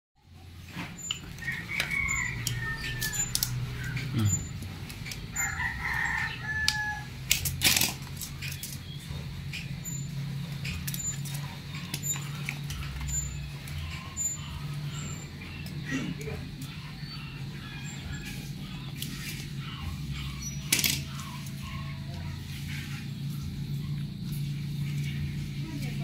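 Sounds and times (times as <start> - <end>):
steady low hum: 0.2 - 26.0
bird calling: 0.7 - 7.2, 8.3 - 25.8.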